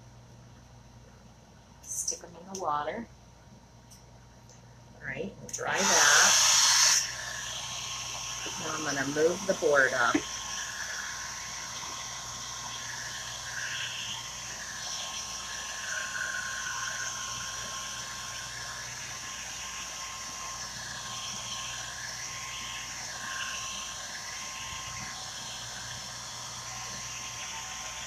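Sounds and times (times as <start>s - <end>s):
hair dryer running: 5.5s - 28.0s.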